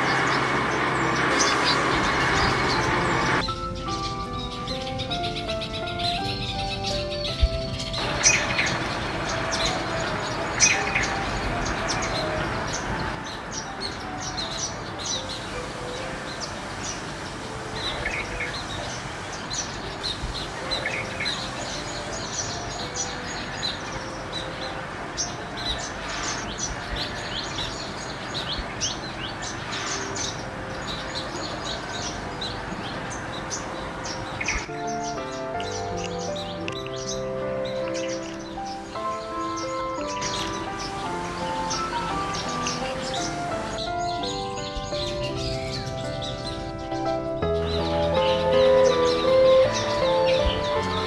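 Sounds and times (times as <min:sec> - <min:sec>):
small birds chirping: 0:00.0 - 0:51.0
steady outdoor hiss: 0:00.0 - 0:51.0.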